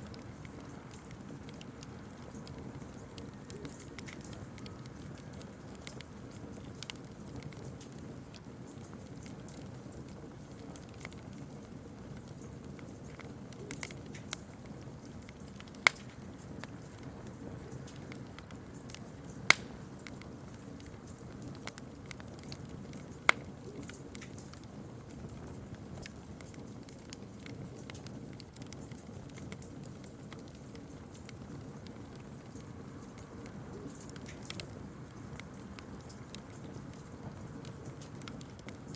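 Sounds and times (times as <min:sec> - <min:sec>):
campfire crackling and popping: 0:00.0 - 0:38.9
low rush of burning: 0:00.0 - 0:38.9.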